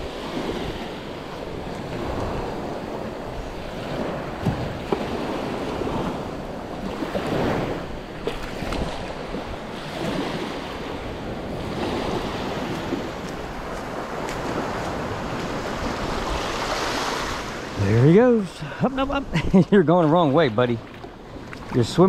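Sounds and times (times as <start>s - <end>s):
wind on microphone: 0.0s - 17.9s
surf breaking on beach: 0.0s - 19.4s.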